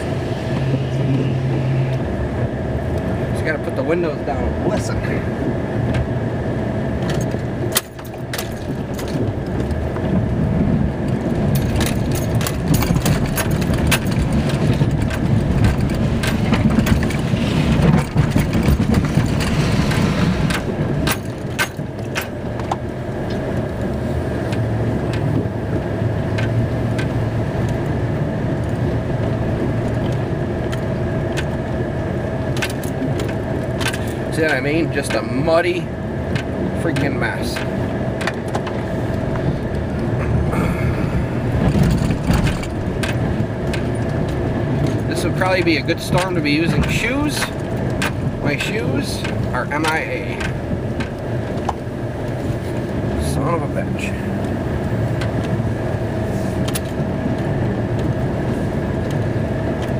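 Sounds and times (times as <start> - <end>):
truck engine rumble: 0.0 - 59.9
gravel crunching and knocking: 1.9 - 59.9
plow blade pushing snow and gravel: 7.2 - 59.9.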